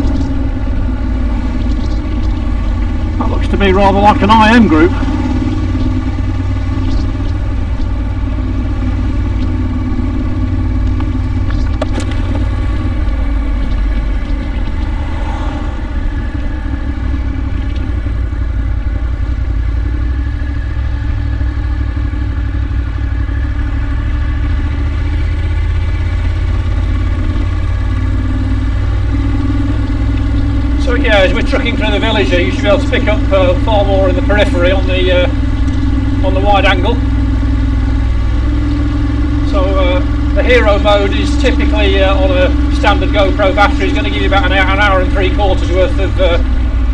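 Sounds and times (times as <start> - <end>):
motorcycle engine cruising: 0.0 - 46.9.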